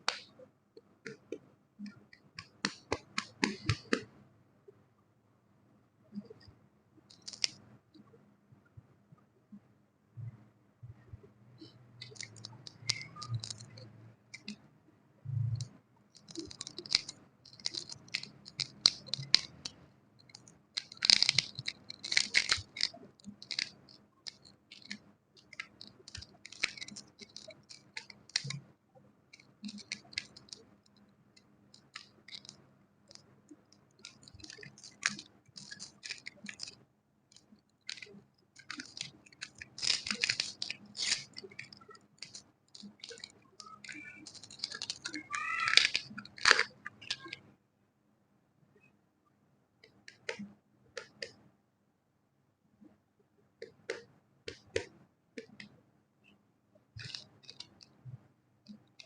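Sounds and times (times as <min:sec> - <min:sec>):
crisp scratching and clicking: 0:00.0 - 0:04.2, 0:07.1 - 0:08.2, 0:11.2 - 0:14.7, 0:15.3 - 0:47.5, 0:49.8 - 0:51.4, 0:53.6 - 0:56.4, 0:57.0 - 0:59.0.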